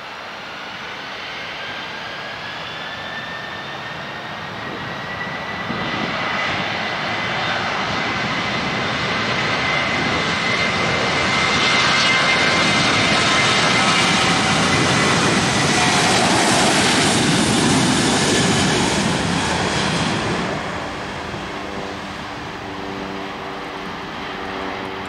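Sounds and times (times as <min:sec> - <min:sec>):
jet engines spooling up: 0:00.4 - 0:25.0.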